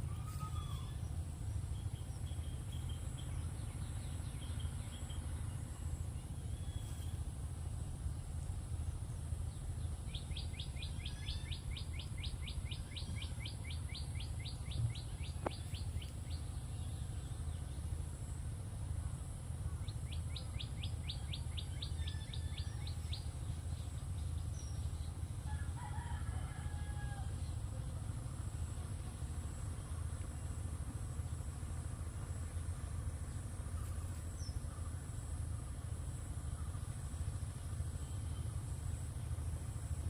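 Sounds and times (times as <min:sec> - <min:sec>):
steady low rumble: 0:00.0 - 0:25.8, 0:26.6 - 0:40.0.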